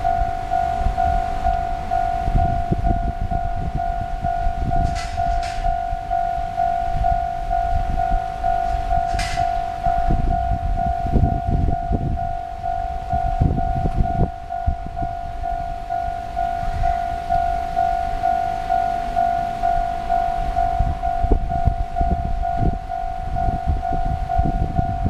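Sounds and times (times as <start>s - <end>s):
level crossing electronic bell: 0.0s - 25.0s.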